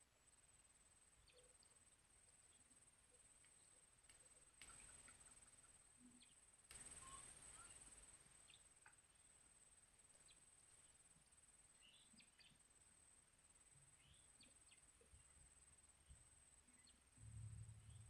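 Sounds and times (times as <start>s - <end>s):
faint bird chirps: 0.0s - 18.0s
faint high-pitched whine: 0.0s - 18.0s.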